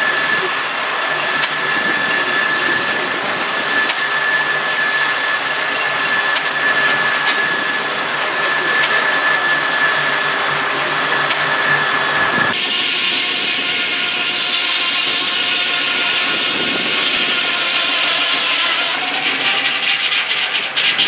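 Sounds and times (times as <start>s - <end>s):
sawmill machinery running: 0.0s - 21.0s.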